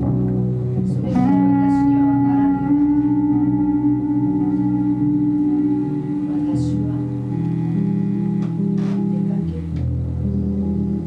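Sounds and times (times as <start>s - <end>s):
electric bass drone: 0.0s - 11.0s.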